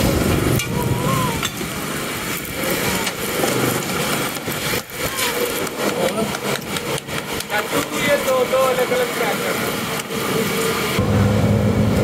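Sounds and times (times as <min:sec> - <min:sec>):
passing vehicle engines: 0:00.0 - 0:12.0.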